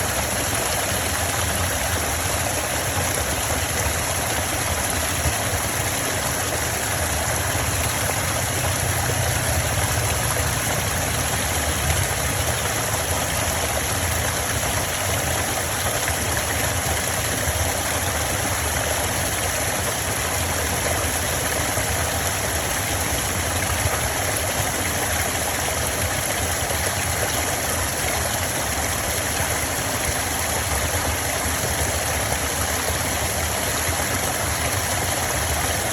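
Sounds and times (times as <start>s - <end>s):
stream flowing over stones: 0.0s - 35.9s.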